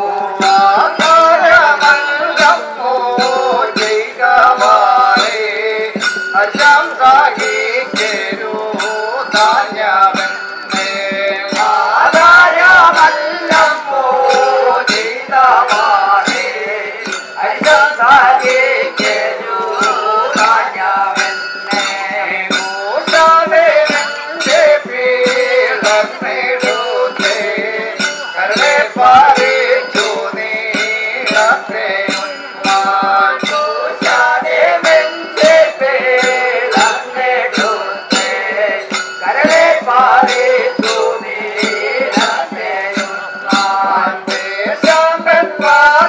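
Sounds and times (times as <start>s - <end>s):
metallic percussion strikes: 0.0s - 46.0s
person singing: 0.0s - 46.0s.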